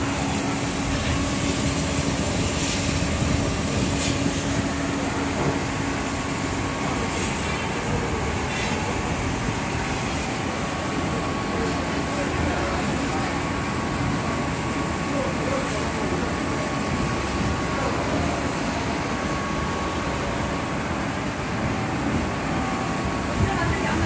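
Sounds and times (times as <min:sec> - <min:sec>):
laser cutting machine humming: 0:00.0 - 0:24.0.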